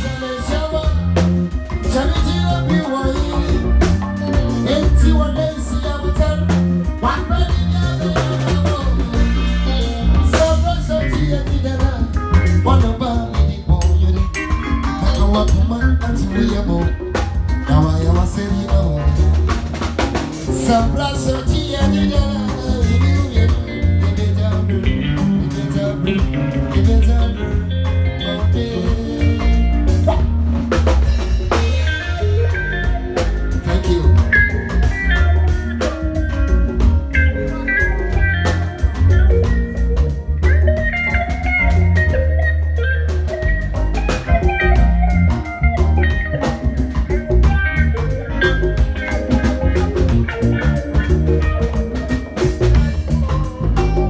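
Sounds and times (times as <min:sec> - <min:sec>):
band playing: 0:00.0 - 0:54.0.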